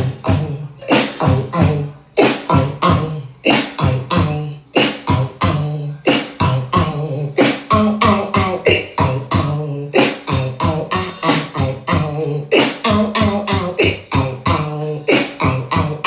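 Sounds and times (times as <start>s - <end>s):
beatboxing vocal percussion: 0.0s - 16.0s.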